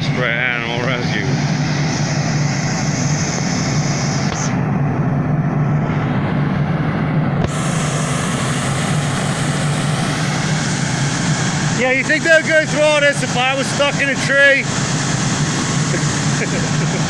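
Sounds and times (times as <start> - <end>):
fire truck engine idling: 0.0 - 17.0.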